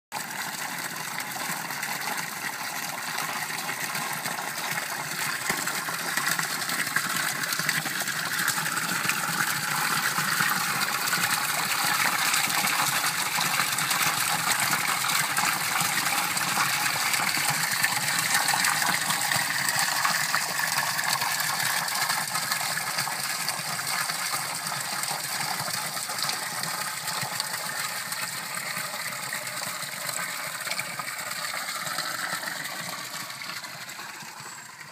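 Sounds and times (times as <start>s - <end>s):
spring water splashing into stone basin: 0.2s - 34.9s.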